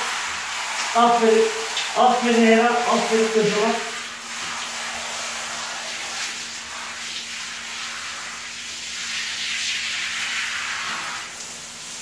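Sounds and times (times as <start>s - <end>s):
shower head spraying water: 0.0s - 12.0s.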